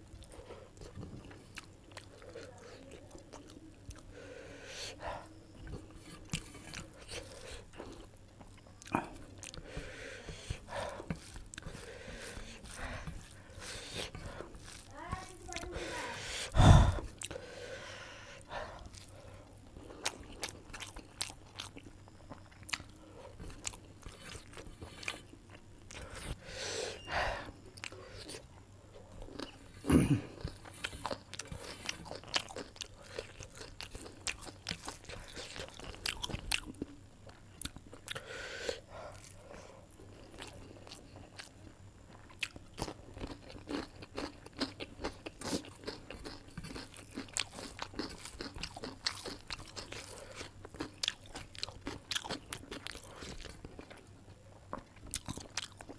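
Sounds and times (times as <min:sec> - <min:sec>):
person chewing and crunching: 0:00.0 - 0:55.9.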